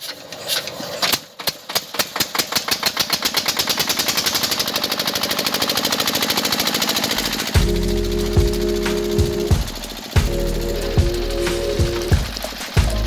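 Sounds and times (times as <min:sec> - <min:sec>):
rapid mechanical clicking: 0:00.0 - 0:13.0.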